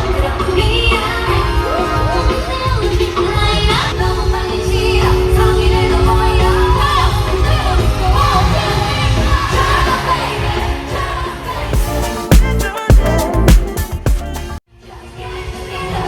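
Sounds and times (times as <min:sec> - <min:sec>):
live pop music with singing: 0:00.0 - 0:16.0.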